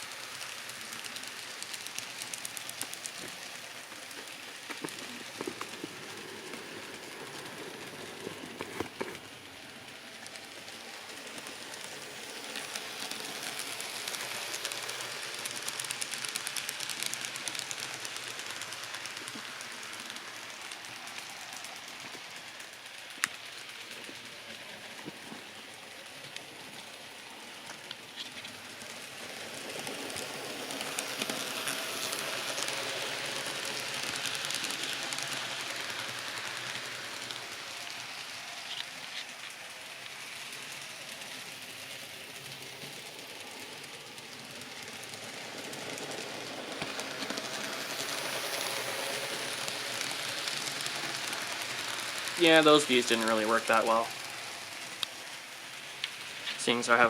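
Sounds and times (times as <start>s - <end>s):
model train motor whir: 0.0s - 57.0s
wheels clicking over rail: 0.3s - 57.0s.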